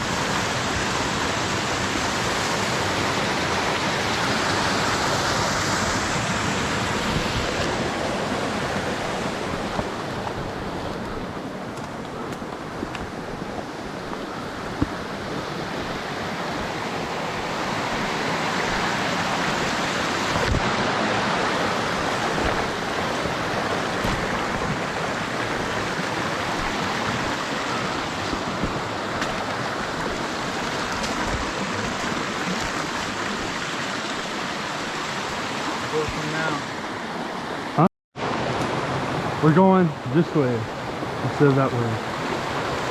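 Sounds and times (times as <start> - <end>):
flowing water rushing: 0.0 - 42.9.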